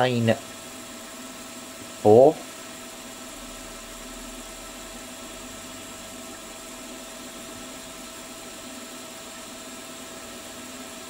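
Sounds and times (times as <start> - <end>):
milling machine motor hum: 0.0 - 11.0.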